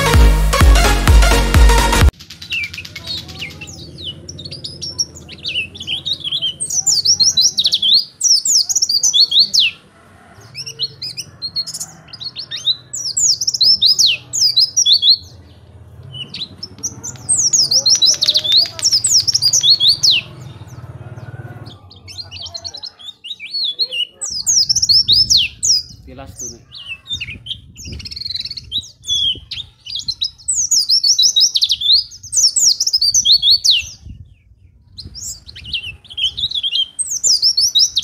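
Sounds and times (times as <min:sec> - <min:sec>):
bird twittering song: 0:02.1 - 0:38.0.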